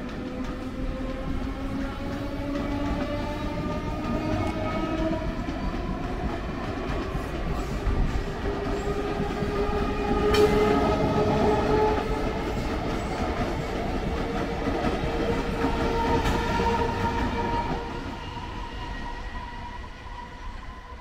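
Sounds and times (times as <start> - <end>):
clickety-clack over rail joints: 0.0 - 18.3
train wheels rumbling on rail: 0.0 - 21.0.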